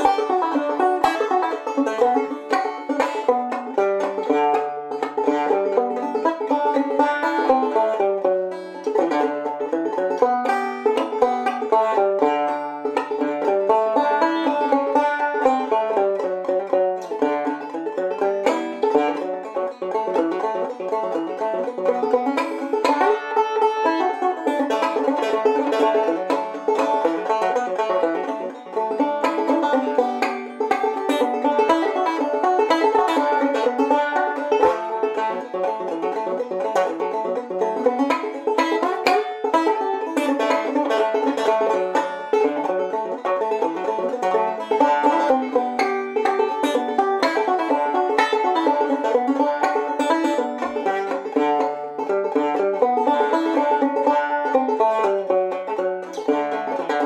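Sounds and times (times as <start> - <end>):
banjo plucking and strumming: 0.0 - 57.0.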